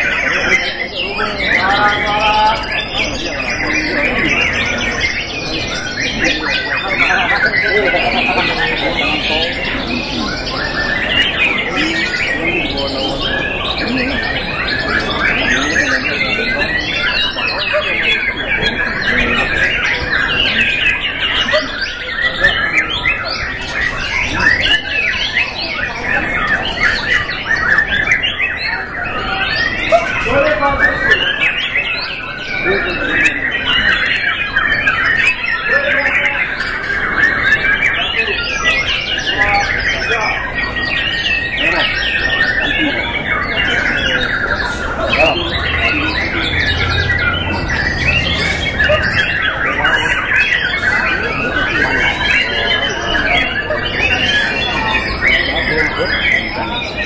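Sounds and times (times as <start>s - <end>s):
many birds singing: 0.0s - 57.0s.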